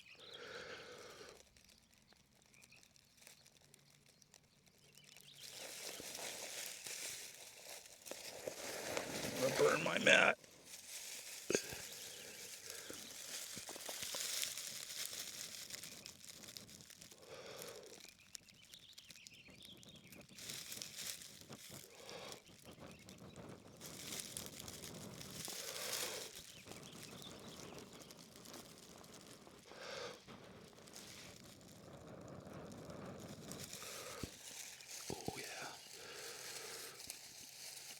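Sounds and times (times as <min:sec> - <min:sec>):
dry grass rustling and crinkling: 0:01.0 - 0:37.9.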